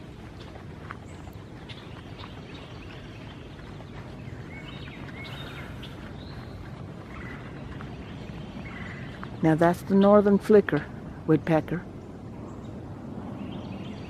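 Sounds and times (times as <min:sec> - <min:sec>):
steady low background noise: 0:00.0 - 0:14.0.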